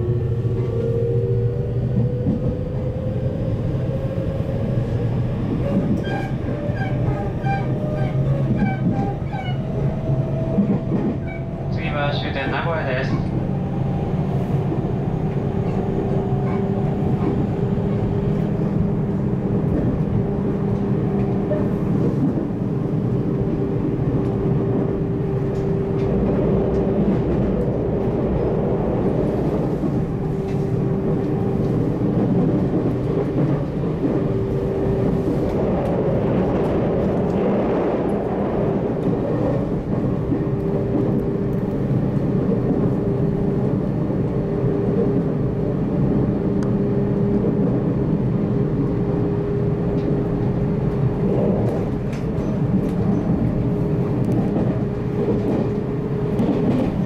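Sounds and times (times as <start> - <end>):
steady train hum: 0.0 - 57.0
train running rumble: 0.0 - 57.0.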